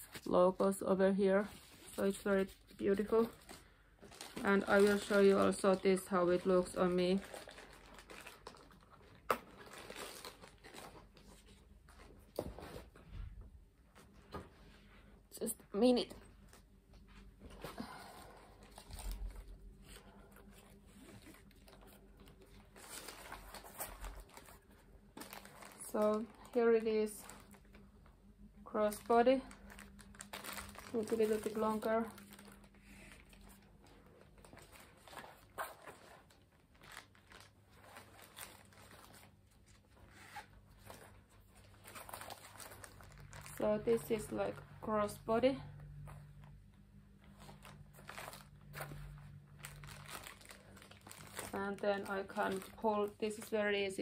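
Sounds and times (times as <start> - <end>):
plastic wrap crinkling: 0.0 - 13.0, 17.7 - 54.0.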